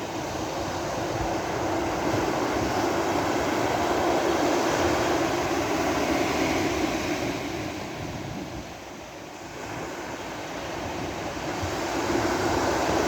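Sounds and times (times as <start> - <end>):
waves washing on beach: 0.0 - 13.0.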